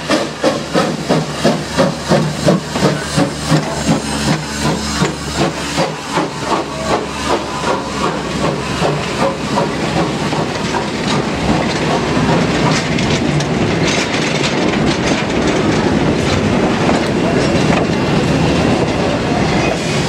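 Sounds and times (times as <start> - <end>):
steam locomotive chuffing: 0.0 - 20.0
train coaches rumbling past: 0.0 - 20.0
wheels clicking over rail joints: 0.0 - 20.0.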